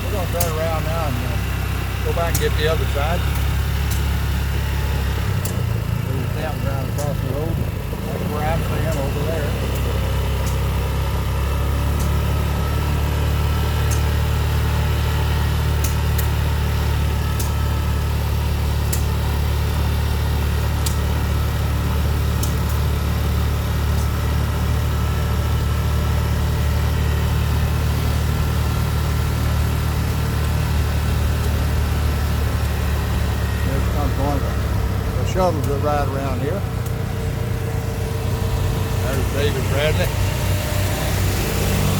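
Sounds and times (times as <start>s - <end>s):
low engine drone: 0.0s - 41.9s.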